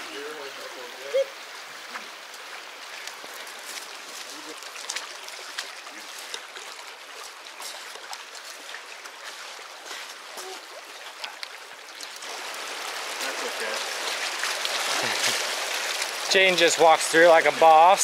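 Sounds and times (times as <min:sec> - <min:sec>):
creek babbling over rocks: 0:00.0 - 0:18.0.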